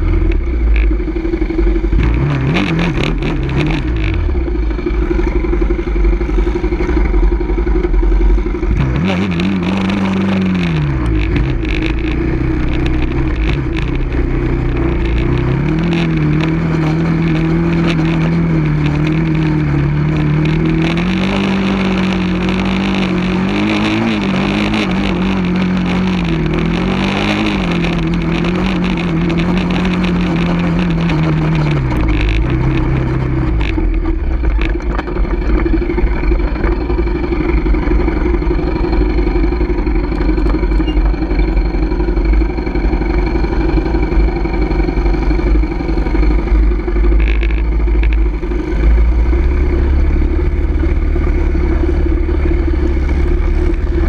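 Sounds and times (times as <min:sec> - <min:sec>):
low rumble: 0:00.0 - 0:54.0
off-road vehicle engine running: 0:00.0 - 0:54.0.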